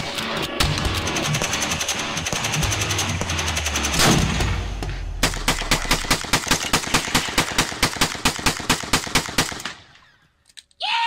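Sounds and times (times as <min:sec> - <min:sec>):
rapid gunfire: 0:00.0 - 0:09.9.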